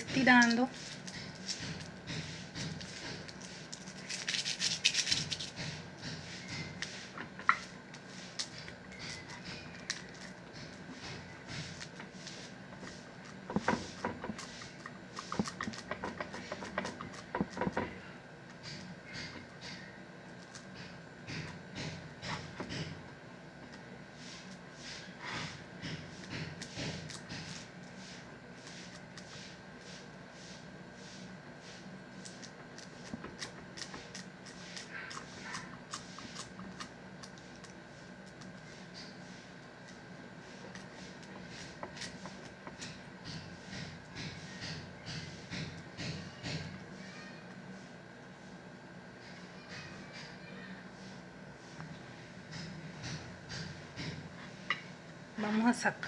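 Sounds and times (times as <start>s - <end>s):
sticky candy kneaded by hand: 0.0s - 48.6s.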